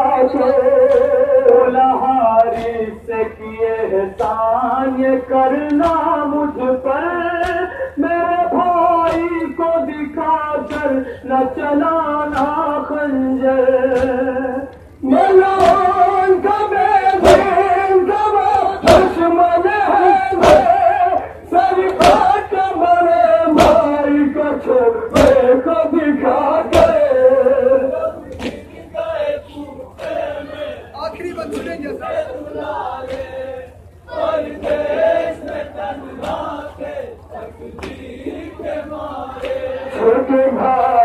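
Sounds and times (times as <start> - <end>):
men chanting in unison: 0.0 - 41.0.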